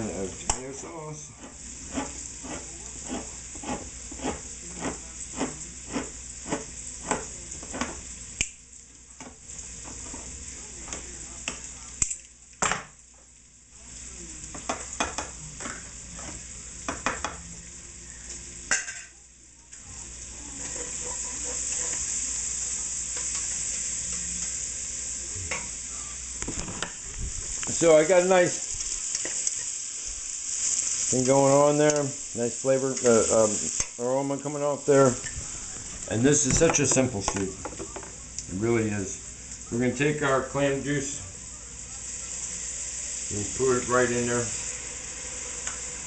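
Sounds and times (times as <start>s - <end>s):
vegetables sizzling in pan: 0.0s - 46.0s.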